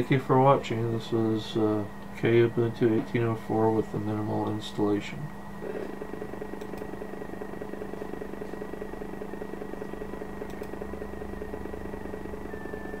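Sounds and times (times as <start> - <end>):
high machine whine: 0.0 - 13.0
machine hum and buzz: 0.0 - 13.0.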